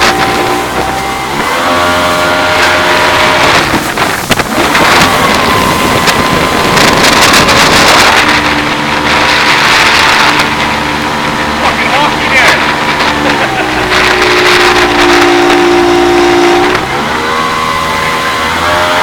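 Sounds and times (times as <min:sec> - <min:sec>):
jet boat engine revving: 0:00.0 - 0:19.0
rush of water: 0:00.0 - 0:19.0
wind on microphone: 0:00.0 - 0:19.0.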